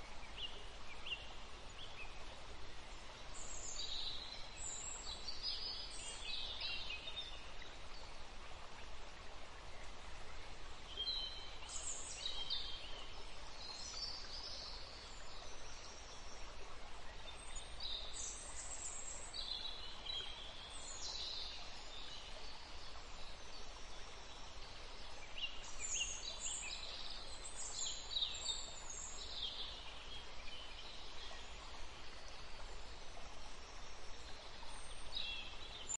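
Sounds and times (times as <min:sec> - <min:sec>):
steady background hiss: 0:00.0 - 0:35.9.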